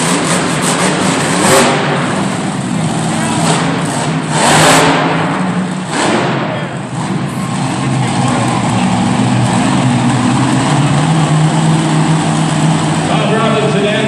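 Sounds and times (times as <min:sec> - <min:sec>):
truck engine revving loudly: 0:00.0 - 0:14.0.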